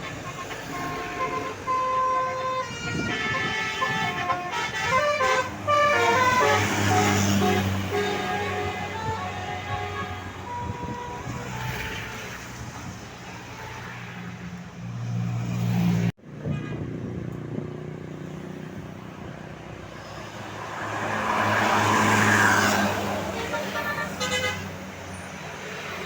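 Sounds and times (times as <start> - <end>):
bus diesel engine: 0.0 - 15.0, 18.8 - 26.0
road traffic: 0.0 - 26.0.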